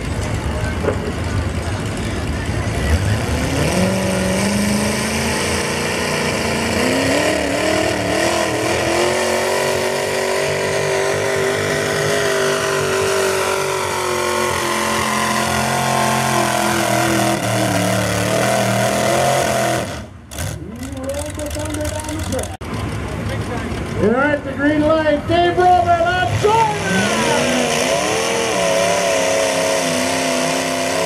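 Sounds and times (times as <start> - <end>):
tractor engine revving high: 0.0 - 22.7, 26.1 - 31.0.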